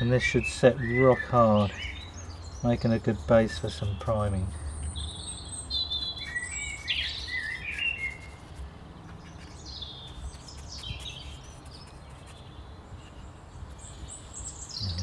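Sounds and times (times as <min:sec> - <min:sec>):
birds chirping and singing: 0:00.0 - 0:15.0.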